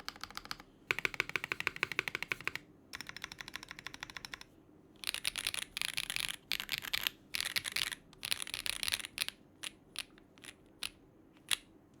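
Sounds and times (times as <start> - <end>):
mechanical keyboard clacks: 0.0 - 10.6.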